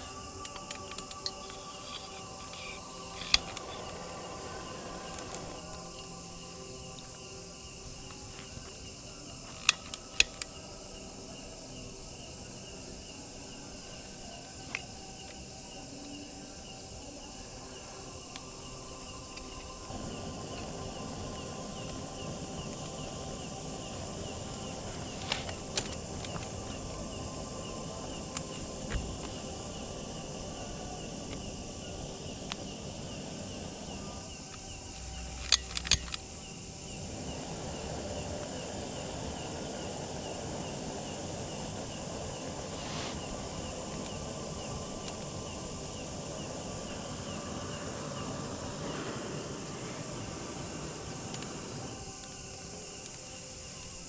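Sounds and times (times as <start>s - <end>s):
crackling hiss: 0.0s - 54.0s
night insects chirring: 0.0s - 54.0s.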